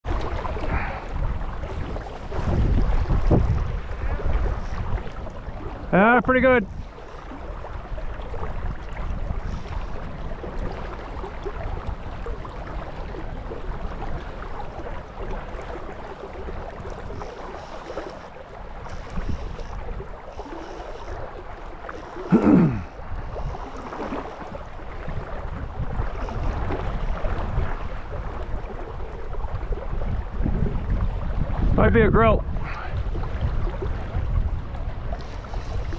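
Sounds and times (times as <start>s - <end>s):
river water lapping: 0.0s - 31.8s, 32.4s - 35.9s
wind buffeting microphone: 0.0s - 35.9s.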